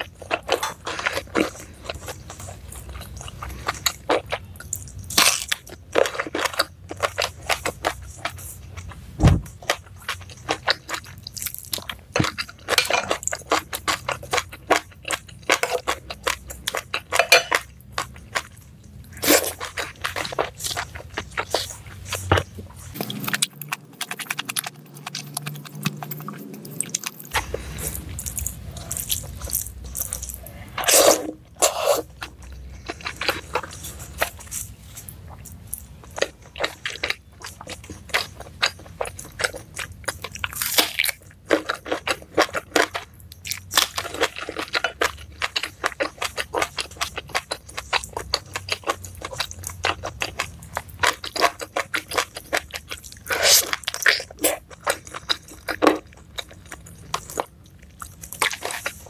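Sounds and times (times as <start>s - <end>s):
person chewing food: 0.0s - 59.0s
wet clicks and crunching: 0.0s - 59.0s.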